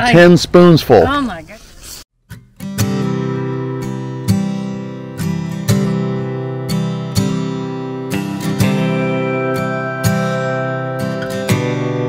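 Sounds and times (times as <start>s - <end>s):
strummed acoustic guitar: 2.2s - 12.0s.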